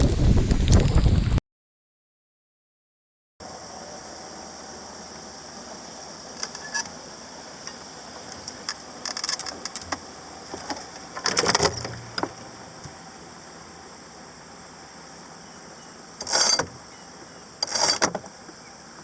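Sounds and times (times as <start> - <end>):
steady hiss: 3.4 - 19.0.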